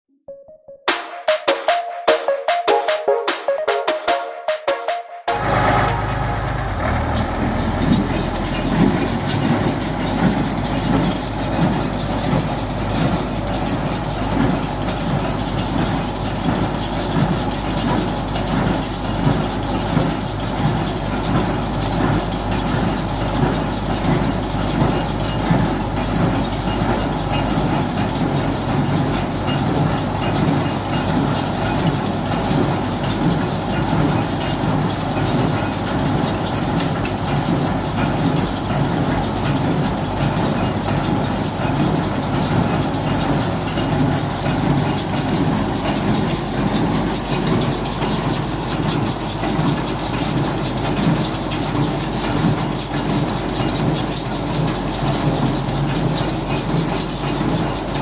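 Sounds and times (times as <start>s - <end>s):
baler rhythmic mechanical clatter: 0.9s - 58.0s
tractor engine running: 5.3s - 58.0s.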